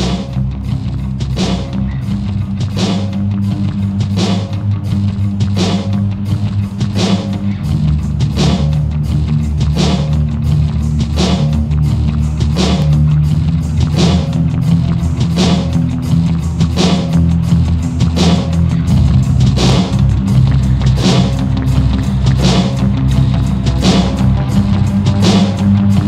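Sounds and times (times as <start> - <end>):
rock music with guitar and drums: 0.0 - 26.0.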